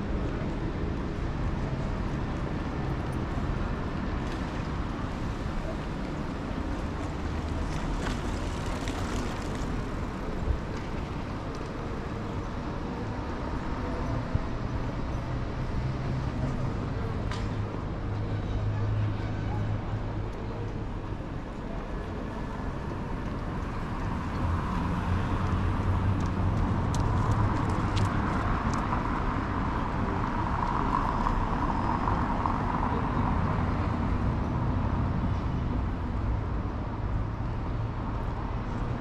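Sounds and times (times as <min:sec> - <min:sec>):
road traffic hum: 0:00.0 - 0:39.0.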